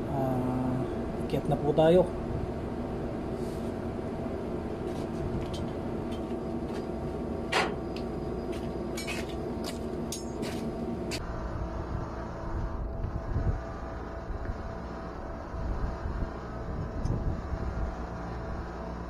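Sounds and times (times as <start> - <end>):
ship deck machinery hum: 0.0 - 19.0.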